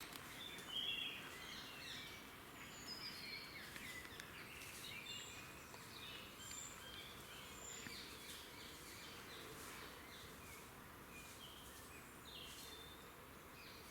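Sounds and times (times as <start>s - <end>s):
songbirds singing and calling: 0.0s - 13.9s.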